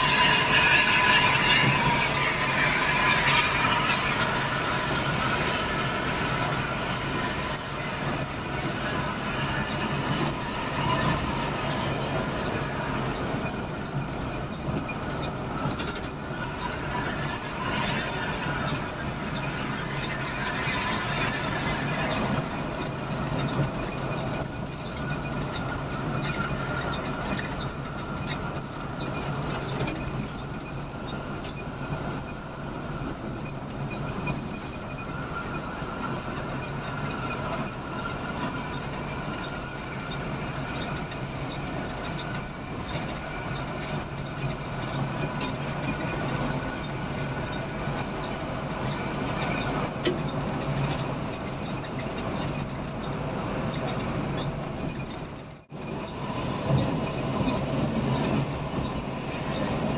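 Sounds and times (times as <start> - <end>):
bus engine hum: 0.0 - 59.9
tyre and road noise: 0.0 - 59.9.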